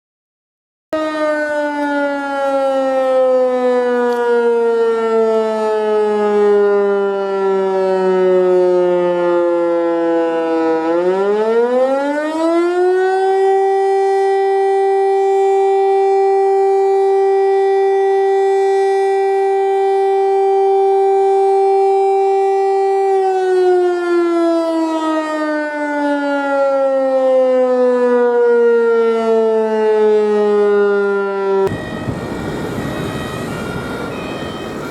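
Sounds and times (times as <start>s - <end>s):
wailing alarm siren: 0.9s - 34.9s.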